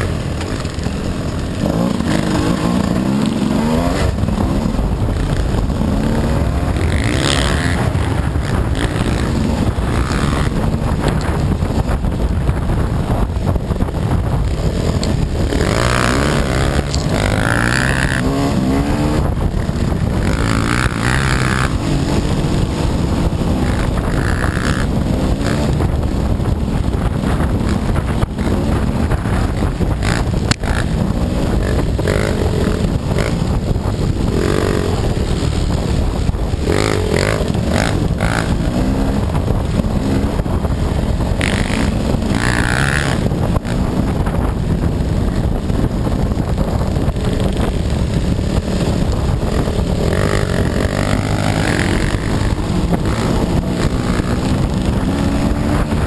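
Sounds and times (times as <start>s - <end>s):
dirt bike engine revving: 0.0s - 12.0s, 12.7s - 56.0s.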